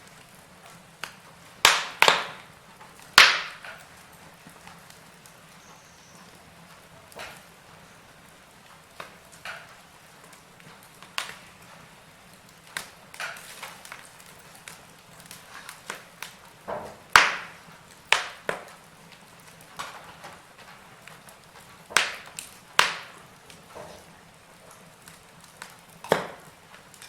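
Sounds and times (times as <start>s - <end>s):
faint steady hiss: 0.0s - 27.0s
wood fire crackling: 0.0s - 27.0s.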